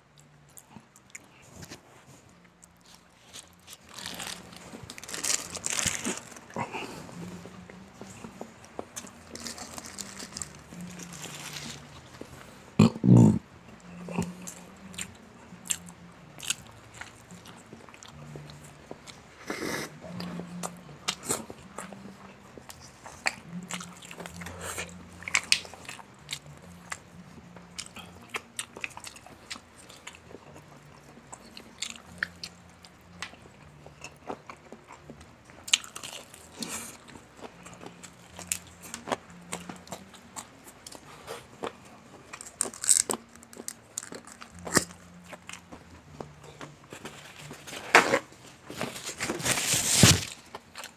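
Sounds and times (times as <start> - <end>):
chewing crispy fried chicken: 0.1 - 49.0.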